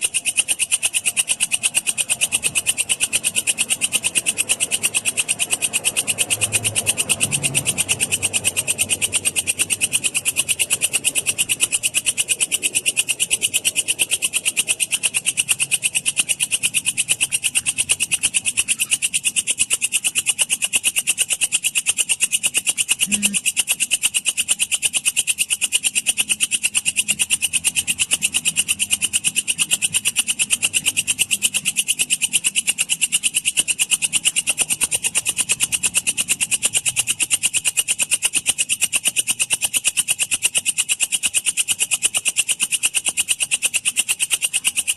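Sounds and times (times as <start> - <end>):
katydid chirping: 0.0 - 44.9.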